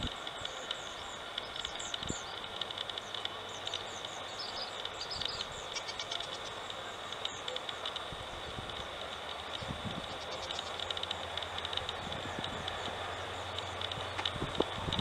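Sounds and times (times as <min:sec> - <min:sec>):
distant locomotive rumble: 0:00.0 - 0:15.0
insects chirping in pulses: 0:00.0 - 0:15.0.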